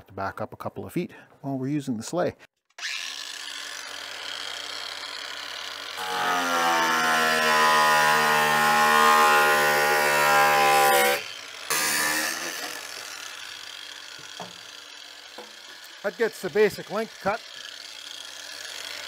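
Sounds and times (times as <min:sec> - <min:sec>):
angle grinder cutting plastic: 0:02.6 - 0:19.0.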